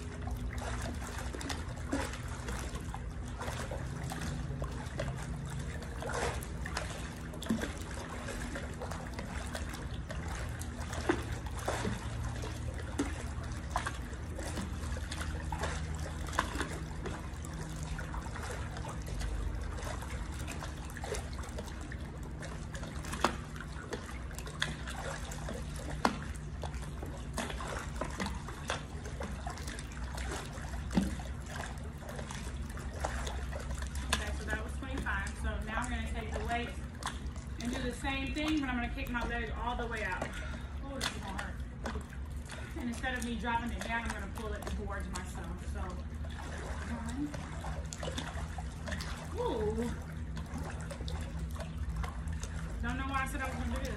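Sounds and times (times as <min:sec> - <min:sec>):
pool water splashing and sloshing: 0:00.0 - 0:53.9.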